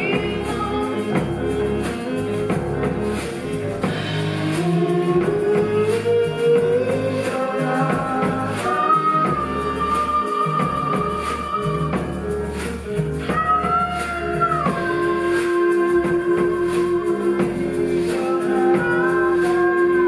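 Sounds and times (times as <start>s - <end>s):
sliding melody notes: 0.0s - 20.0s.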